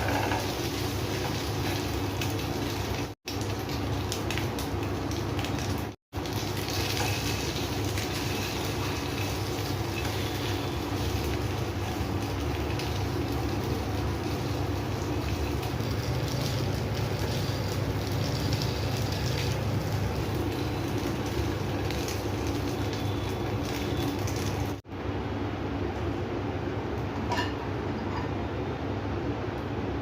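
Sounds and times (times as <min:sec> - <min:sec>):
food sizzling in a pan: 0:00.0 - 0:24.9.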